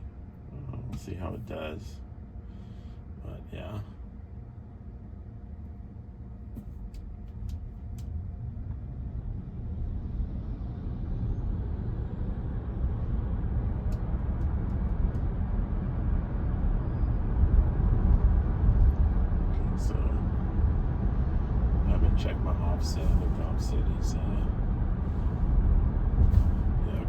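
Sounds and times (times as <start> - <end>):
road and tyre noise in car cabin: 0.0 - 27.0.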